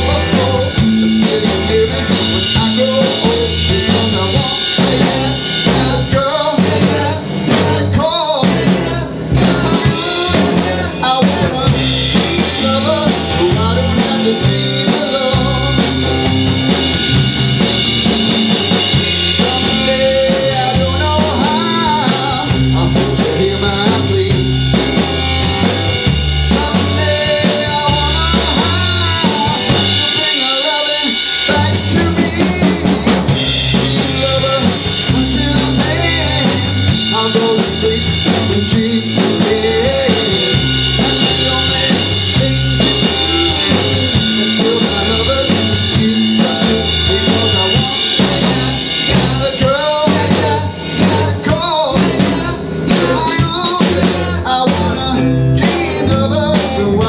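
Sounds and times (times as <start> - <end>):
drum kit: 0.0 - 57.0
electric bass: 0.0 - 57.0
electric guitars: 0.0 - 57.0.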